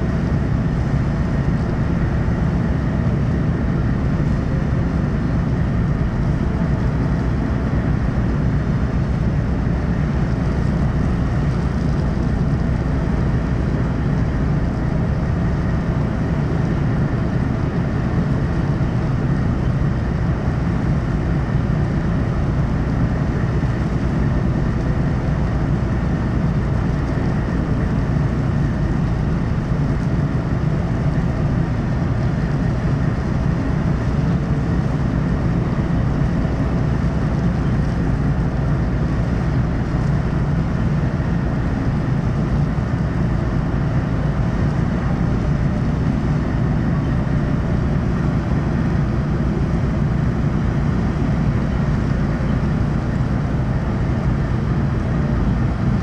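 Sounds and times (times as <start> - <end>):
low rumble of ship engines: 0.0 - 56.0.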